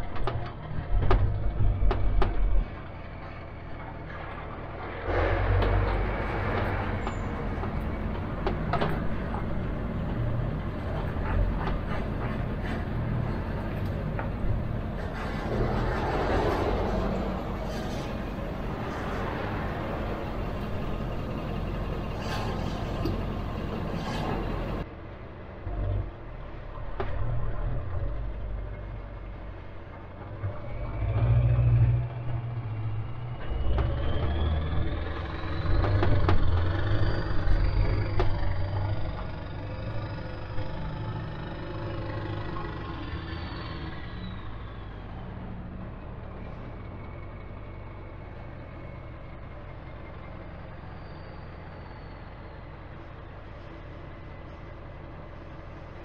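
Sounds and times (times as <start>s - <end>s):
diesel truck engine accelerating: 0.0s - 56.0s.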